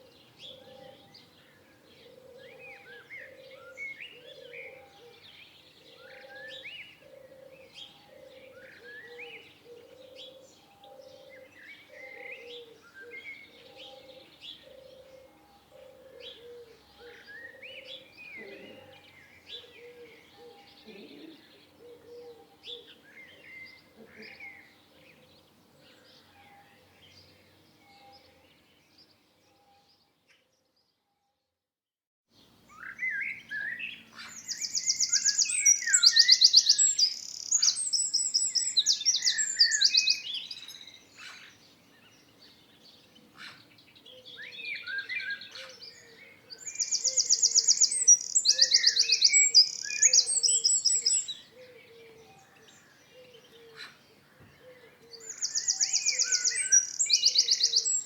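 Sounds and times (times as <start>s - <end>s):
small birds chirping: 0.0s - 30.1s, 32.4s - 58.0s.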